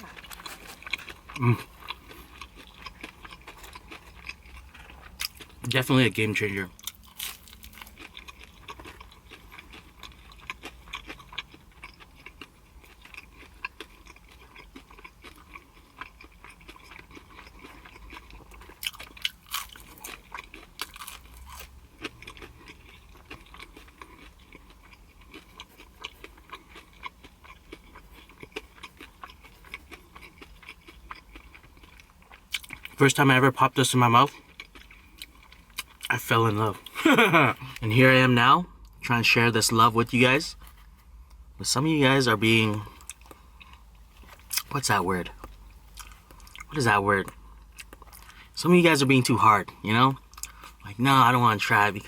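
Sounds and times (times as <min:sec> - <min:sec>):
person chewing pizza: 0:00.0 - 0:52.0.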